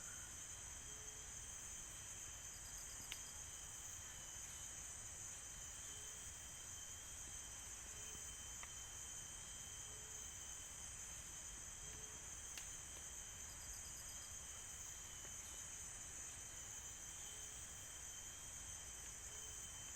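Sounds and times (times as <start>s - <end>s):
high-pitched insect chorus: 0.0s - 19.9s.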